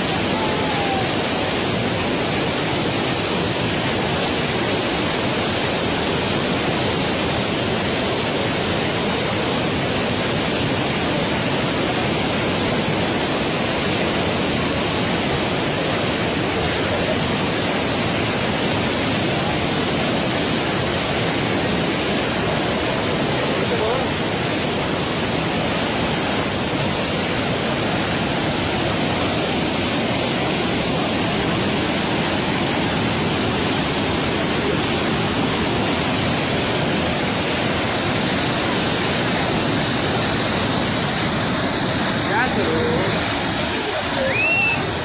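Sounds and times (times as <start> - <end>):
flood torrent rushing: 0.0 - 45.0.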